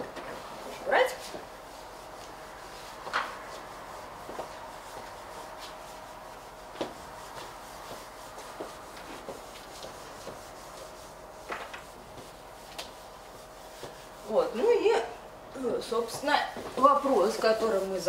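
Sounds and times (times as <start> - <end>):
cloth wiping chalkboard: 0.0 - 18.0.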